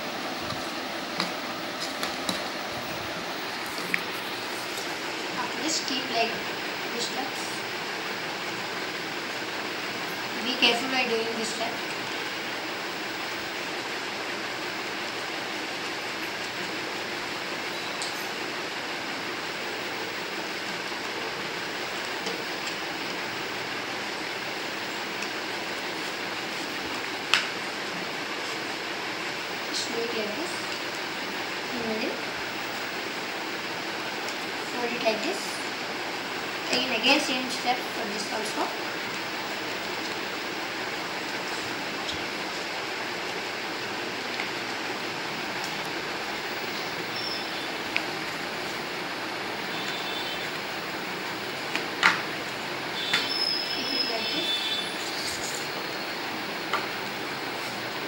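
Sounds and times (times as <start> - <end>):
background room hiss: 0.0 - 58.0.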